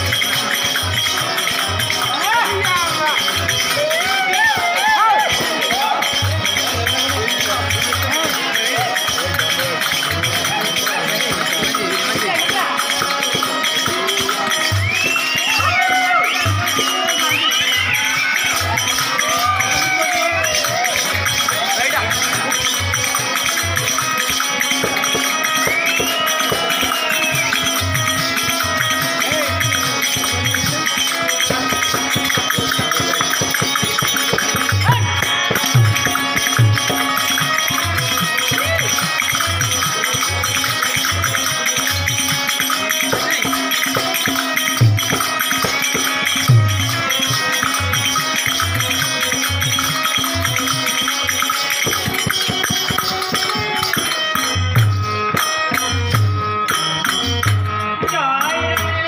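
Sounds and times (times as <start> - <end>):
jingling rattle percussion: 0.0 - 59.0
steady drum beats: 0.0 - 59.0.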